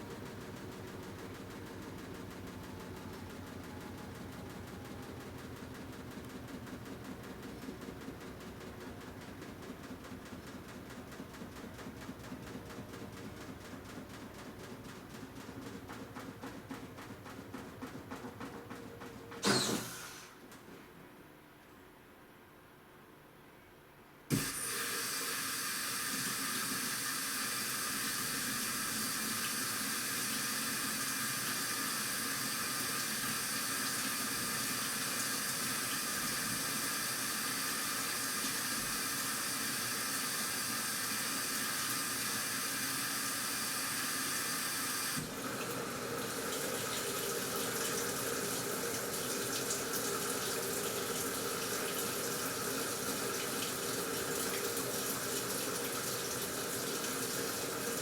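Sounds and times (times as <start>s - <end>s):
washing machine filling with water: 0.0s - 20.4s, 24.3s - 58.0s.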